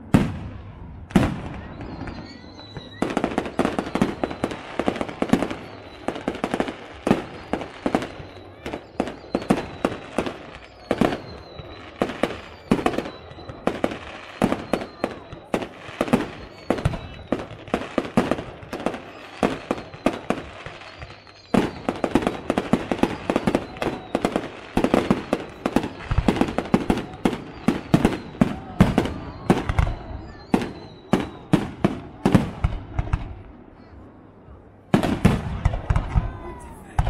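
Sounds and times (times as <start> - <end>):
fireworks bursts and bangs: 0.0 - 37.0.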